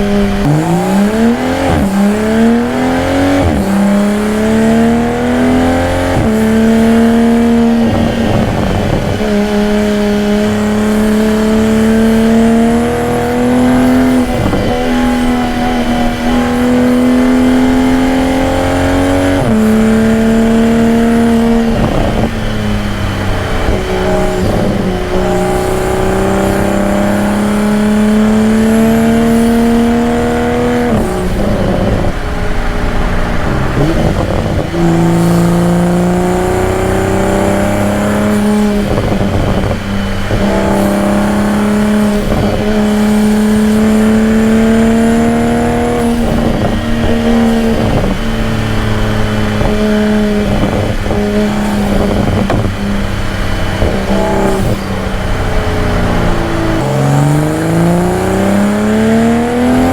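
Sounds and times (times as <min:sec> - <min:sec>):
car engine and exhaust under load: 0:00.0 - 0:59.9.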